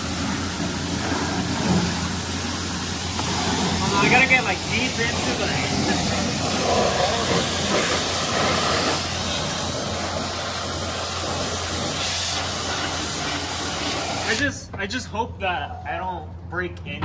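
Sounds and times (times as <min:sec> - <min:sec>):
pressure washer spray hissing: 0:00.0 - 0:14.6.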